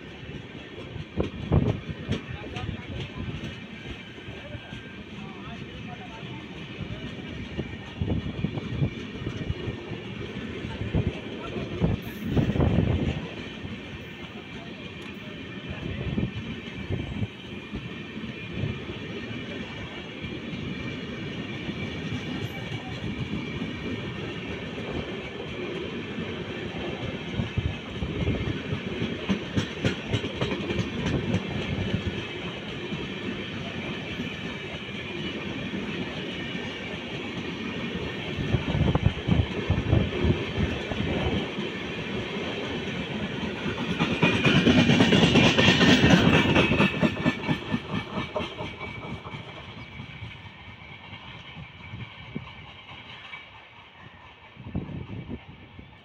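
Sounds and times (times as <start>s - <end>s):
train wheels clickety-clack: 0.0s - 56.0s.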